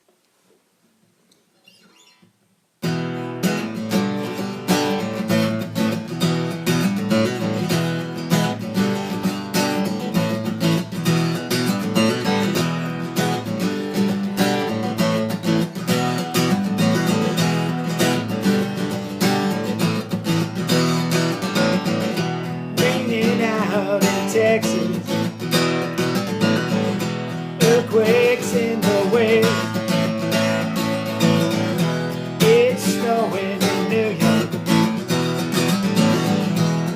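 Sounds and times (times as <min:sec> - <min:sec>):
strummed acoustic guitar: 0:02.8 - 0:36.9.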